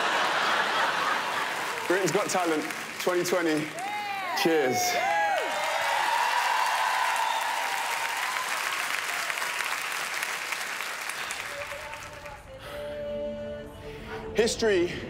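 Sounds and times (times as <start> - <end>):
applause: 0.0 - 12.5.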